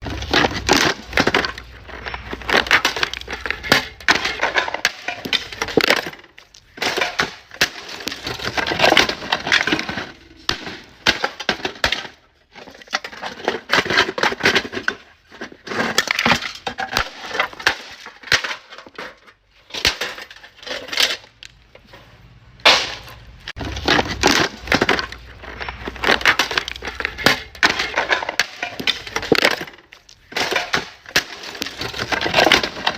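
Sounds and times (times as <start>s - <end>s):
dense crunching and cracking: 0.0s - 32.9s.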